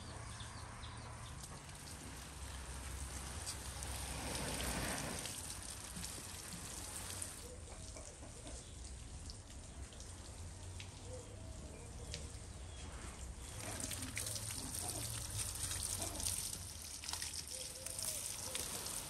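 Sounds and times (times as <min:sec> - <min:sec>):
water showering onto leaves and soil: 0:01.0 - 0:19.0.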